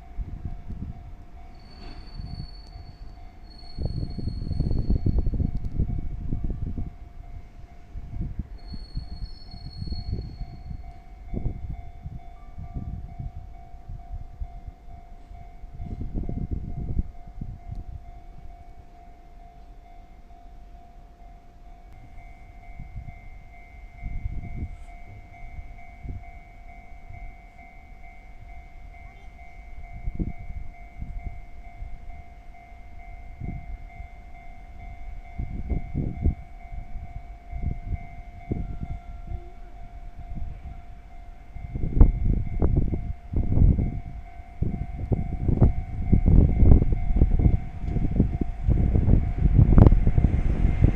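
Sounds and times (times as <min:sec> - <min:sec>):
level-crossing warning bell ringing: 0:00.0 - 0:50.9
low train rumble: 0:00.0 - 0:50.9.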